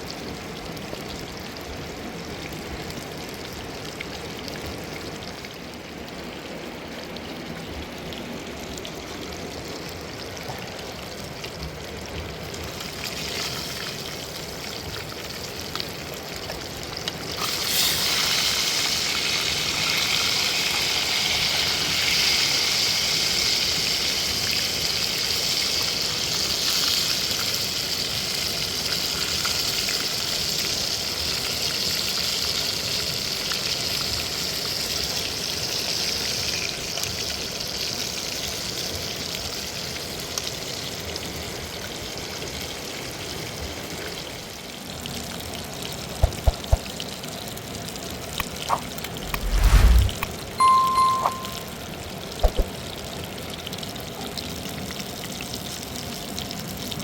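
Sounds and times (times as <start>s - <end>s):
food frying in hot oil: 0.0s - 49.7s, 52.0s - 57.0s.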